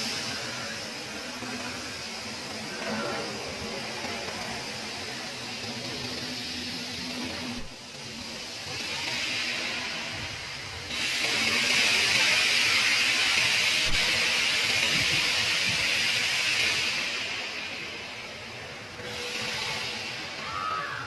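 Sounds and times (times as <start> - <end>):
steady hissing noise: 0.0 - 21.0.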